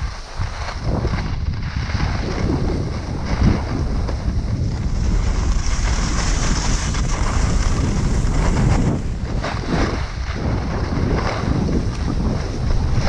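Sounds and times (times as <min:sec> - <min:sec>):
skis sliding on packed snow: 0:00.0 - 0:13.0
wind on microphone: 0:00.0 - 0:13.0.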